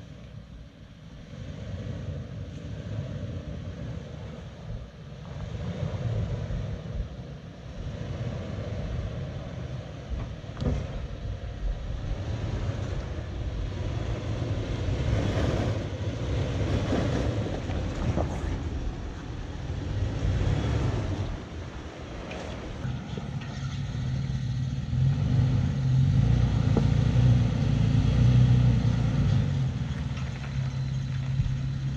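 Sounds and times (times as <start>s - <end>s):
engine running at low speed: 0.0s - 31.9s.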